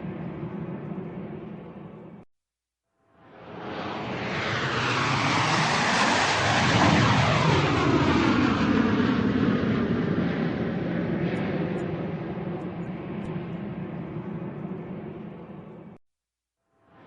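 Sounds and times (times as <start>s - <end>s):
airplane flying overhead: 0.0s - 2.2s, 3.2s - 16.0s.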